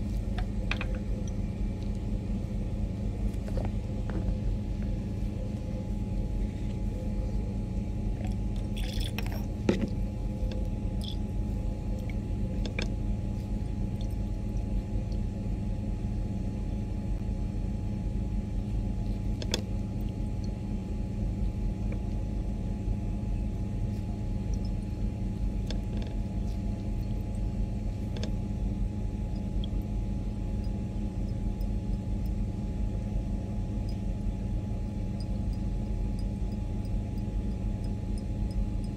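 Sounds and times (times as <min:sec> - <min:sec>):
faint hum: 0:00.0 - 0:38.9
low room rumble: 0:00.0 - 0:38.9.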